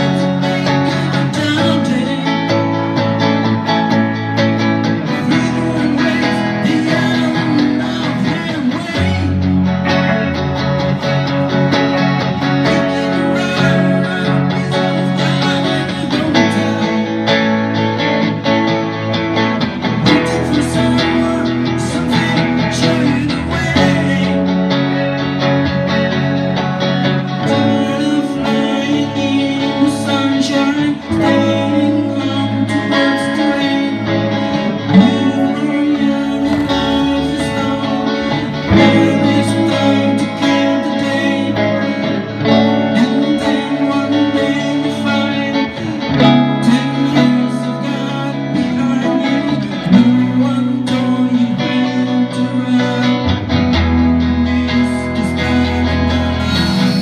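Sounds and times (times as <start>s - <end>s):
acoustic guitar strumming: 0.0s - 57.0s
person singing: 0.0s - 57.0s.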